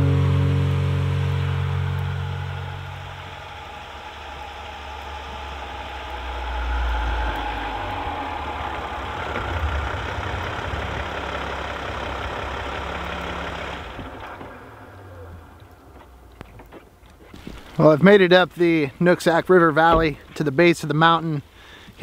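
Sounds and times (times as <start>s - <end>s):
van engine rumble: 0.0s - 18.0s, 19.7s - 20.6s
road and tyre hiss: 0.0s - 22.0s.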